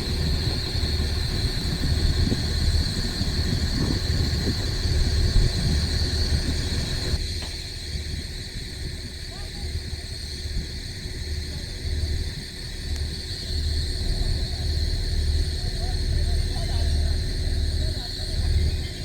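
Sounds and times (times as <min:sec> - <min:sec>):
constant high hiss: 0:00.0 - 0:19.0
steady low rumble: 0:00.0 - 0:19.0.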